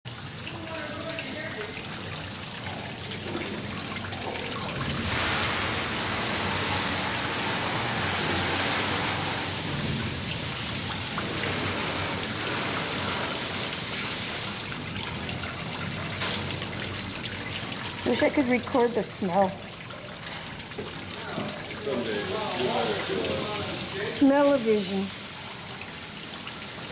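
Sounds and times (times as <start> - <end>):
juice splashing from a press: 0.1 - 26.9.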